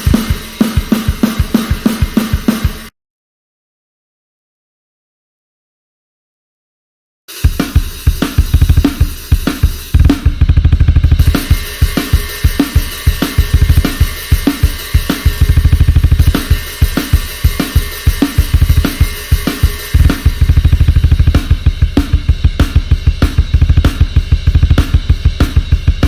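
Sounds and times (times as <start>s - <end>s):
cymbals: 0.0s - 2.9s, 7.3s - 10.4s, 11.1s - 26.0s
rapid bass drum strokes: 0.0s - 2.9s, 7.3s - 26.0s.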